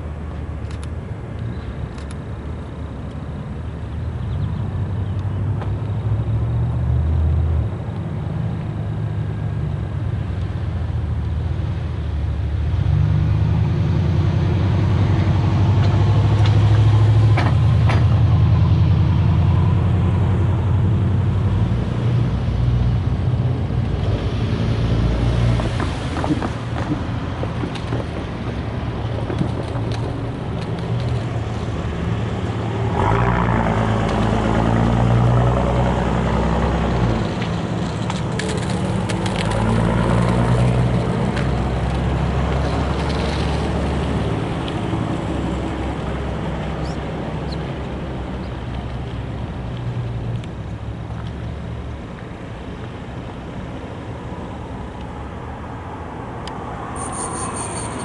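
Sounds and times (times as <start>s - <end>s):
locomotive diesel engine: 4.2s - 58.0s.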